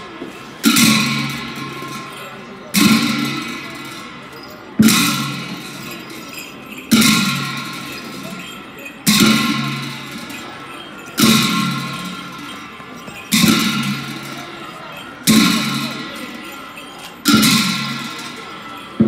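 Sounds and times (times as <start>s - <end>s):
cymbals crashing: 0.0s - 19.0s
drum beats: 0.4s - 4.2s, 4.8s - 14.6s, 15.2s - 19.0s.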